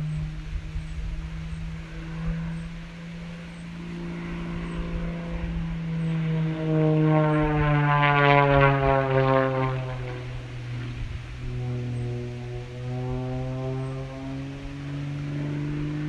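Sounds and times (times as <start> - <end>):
propeller aircraft flying overhead: 0.0 - 16.0.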